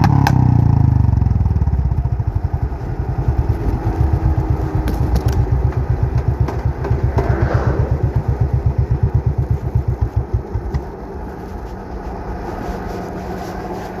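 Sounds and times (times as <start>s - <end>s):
motorcycle engine idling: 0.0s - 13.7s.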